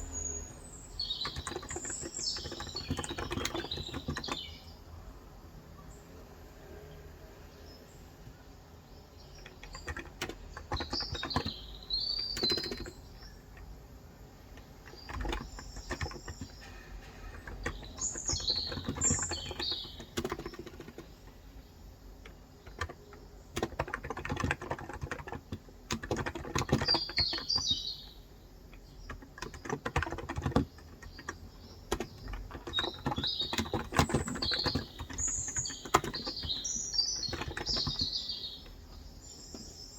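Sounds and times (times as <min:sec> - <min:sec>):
birds chirping: 0:00.0 - 0:05.0, 0:07.3 - 0:39.9
typing on a keyboard: 0:01.0 - 0:04.7, 0:09.2 - 0:13.8, 0:14.4 - 0:21.6, 0:22.2 - 0:38.9.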